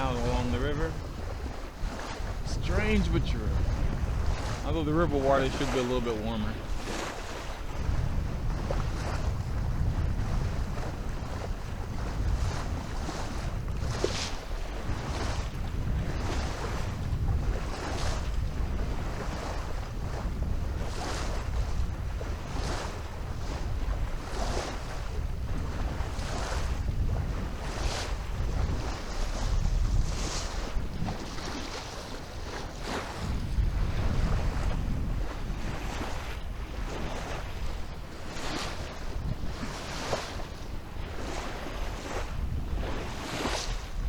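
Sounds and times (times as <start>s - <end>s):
water splashing along hull: 0.0s - 44.0s
wind buffeting microphone: 0.0s - 44.0s.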